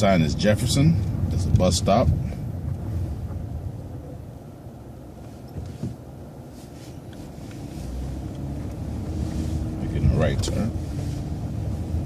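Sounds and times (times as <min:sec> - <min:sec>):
bus engine running low: 0:00.0 - 0:12.0.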